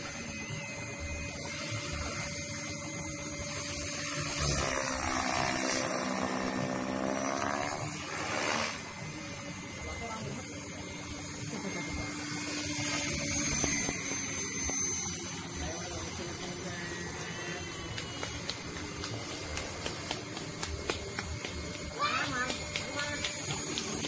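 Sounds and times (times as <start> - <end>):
model helicopter rotor whine: 0.0 - 24.0.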